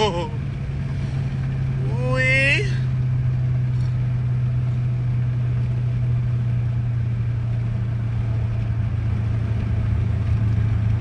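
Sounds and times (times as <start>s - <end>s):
car engine droning: 0.0s - 11.0s
road noise: 0.0s - 11.0s.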